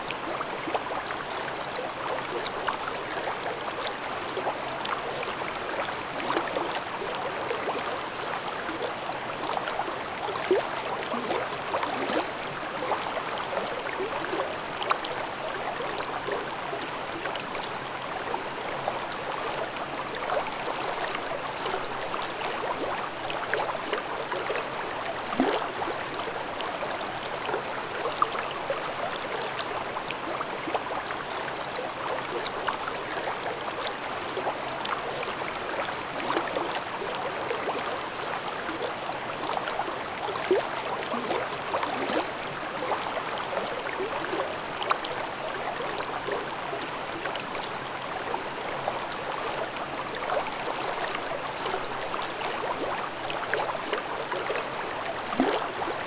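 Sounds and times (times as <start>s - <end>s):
stream babbling over rocks: 0.1s - 56.0s.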